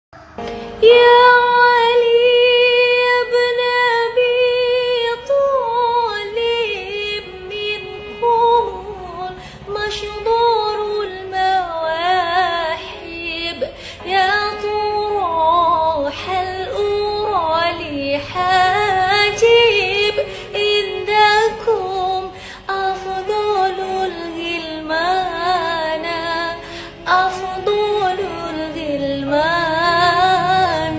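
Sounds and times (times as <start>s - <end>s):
high voice singing: 0.2s - 30.9s.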